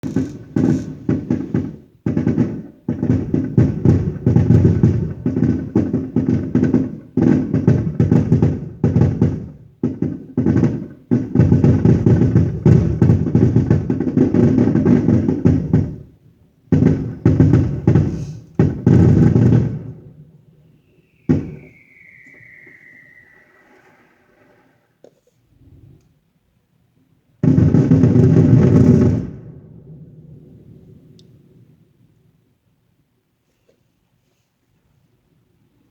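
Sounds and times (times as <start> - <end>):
fireworks bangs and crackles: 0.0 - 24.9, 27.4 - 31.9.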